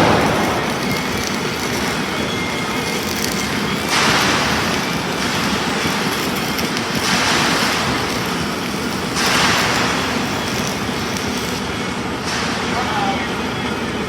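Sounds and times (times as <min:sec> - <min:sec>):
welding arc crackle: 0:00.0 - 0:14.0
welding hissing surges: 0:00.0 - 0:14.0.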